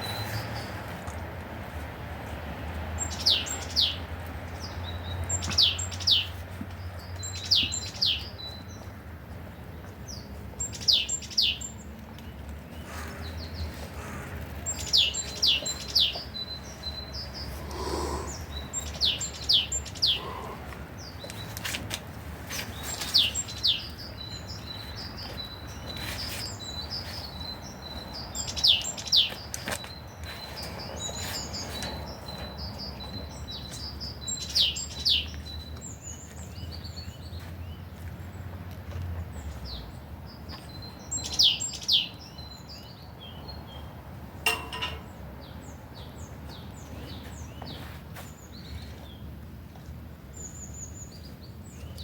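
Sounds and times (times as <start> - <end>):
songbirds calling: 0.0 - 1.3, 2.2 - 52.0.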